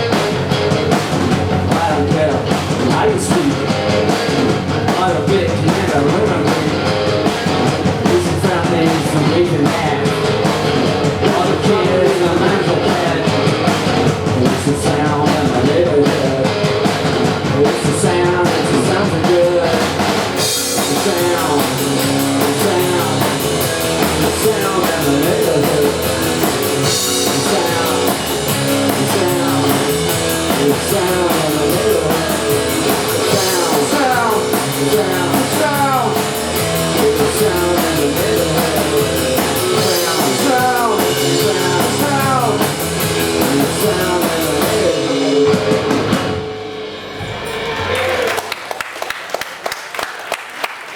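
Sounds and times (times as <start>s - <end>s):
electric guitar: 0.0s - 48.5s
live rock band playing: 0.0s - 49.7s
drum kit: 0.0s - 50.0s.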